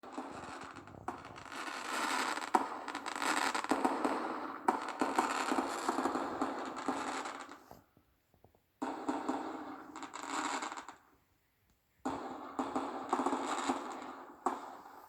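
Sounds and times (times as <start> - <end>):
fireworks bangs: 0.0 - 7.8, 8.8 - 11.0, 12.0 - 15.0
fireworks crackling and popping: 0.0 - 8.0, 8.8 - 11.1, 12.0 - 15.0.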